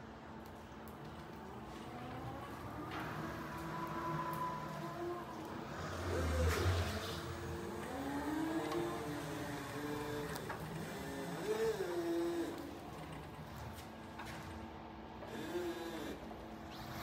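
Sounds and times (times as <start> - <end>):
electric truck motor whining: 1.8 - 13.8, 15.2 - 17.0.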